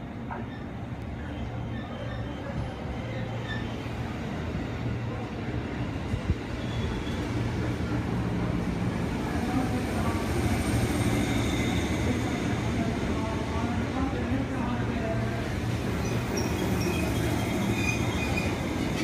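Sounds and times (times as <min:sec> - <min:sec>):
electric train rumbling past: 0:00.1 - 0:19.0.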